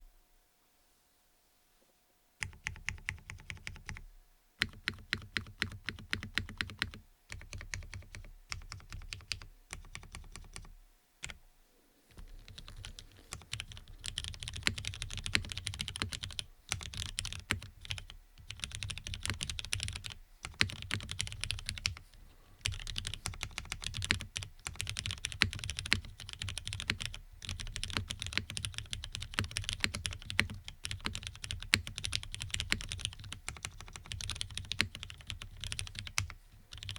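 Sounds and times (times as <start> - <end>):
mechanical keyboard typing: 2.4 - 4.0, 4.6 - 11.4, 12.2 - 22.0, 22.6 - 36.9.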